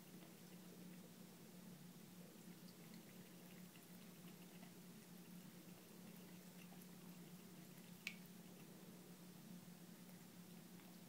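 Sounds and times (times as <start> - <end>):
cat lapping water: 0.0 - 11.0
steady low hum: 0.0 - 11.0.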